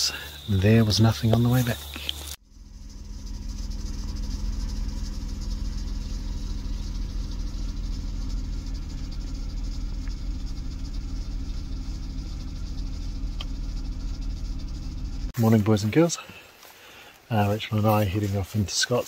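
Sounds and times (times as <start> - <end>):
engine idling: 0.0 - 15.4.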